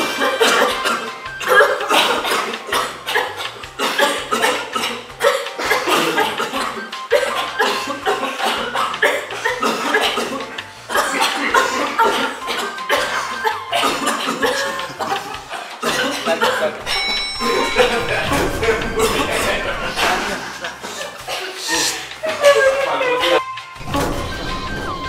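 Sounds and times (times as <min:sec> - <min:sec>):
people coughing: 0:00.0 - 0:24.2
background music: 0:00.0 - 0:25.0.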